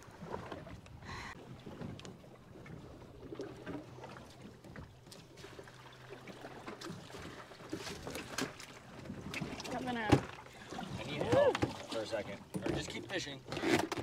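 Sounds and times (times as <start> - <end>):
water lapping against hull: 0.0 - 14.0.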